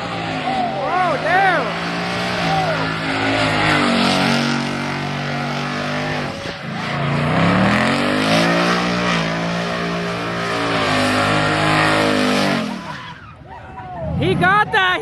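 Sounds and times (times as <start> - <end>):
car engine revving hard: 0.0 - 13.1.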